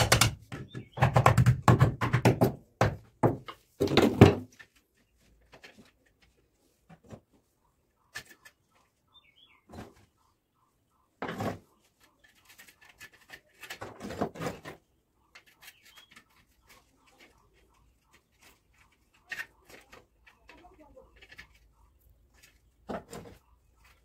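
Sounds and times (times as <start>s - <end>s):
knocks and scraping on brick: 0.0s - 8.7s, 9.6s - 10.2s, 11.1s - 24.0s.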